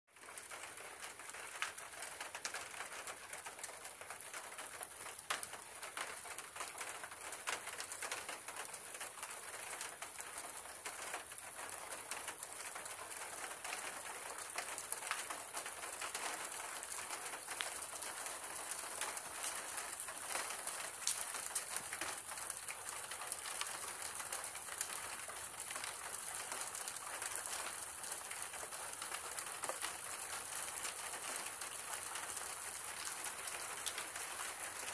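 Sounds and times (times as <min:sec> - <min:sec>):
rain on pavement: 0:00.1 - 0:34.9.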